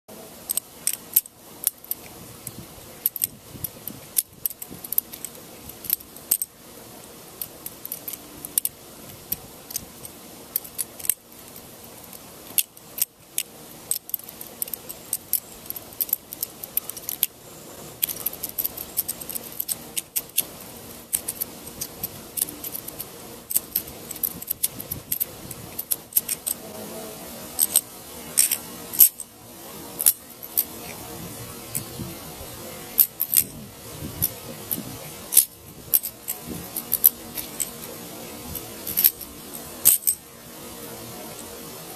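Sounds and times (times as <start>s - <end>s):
faint hiss: 0.1s - 41.9s.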